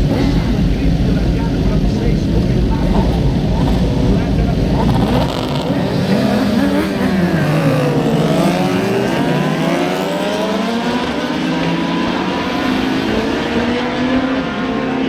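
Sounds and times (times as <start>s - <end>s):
racing motorcycles revving: 0.0s - 15.0s.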